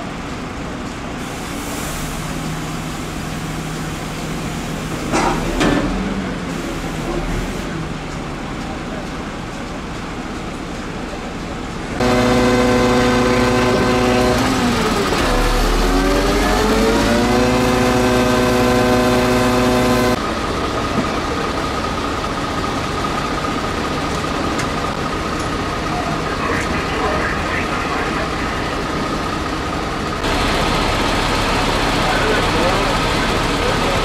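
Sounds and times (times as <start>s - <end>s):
fire engine engine running: 0.0s - 34.0s.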